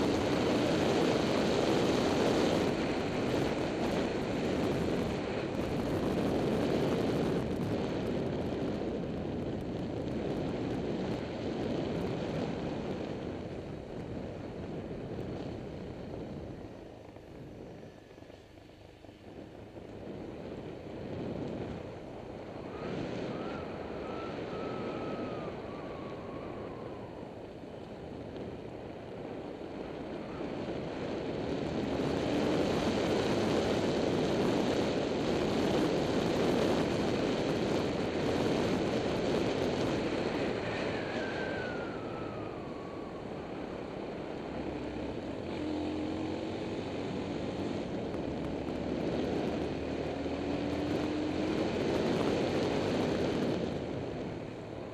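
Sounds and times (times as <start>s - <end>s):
faint engine whine: 0.0s - 54.9s
wind rush over microphone: 0.0s - 54.9s.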